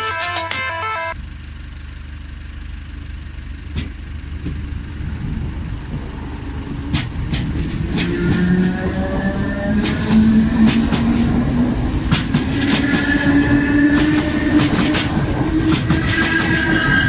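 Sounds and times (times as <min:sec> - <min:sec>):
electric train low rumble: 0:00.0 - 0:17.0.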